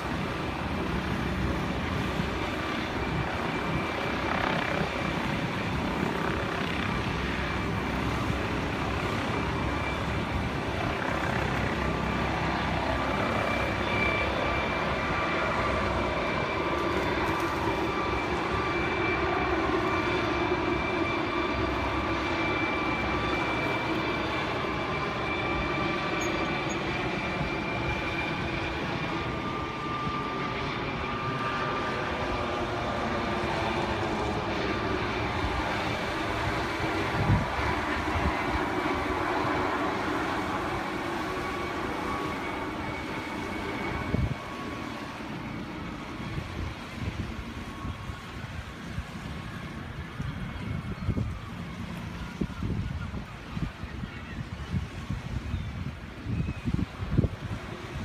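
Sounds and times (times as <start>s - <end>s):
helicopter engine whining: 0.0s - 58.0s.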